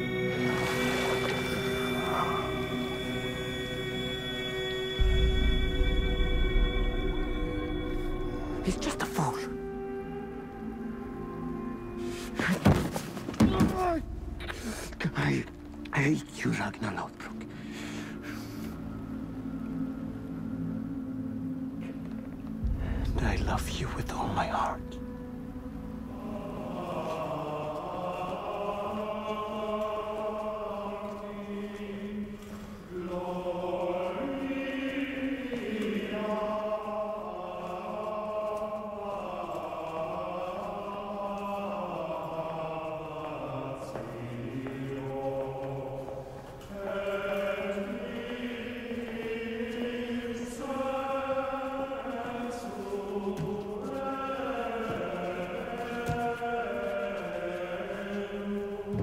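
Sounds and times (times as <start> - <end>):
choir chanting held notes: 0.0 - 12.3, 22.8 - 59.0.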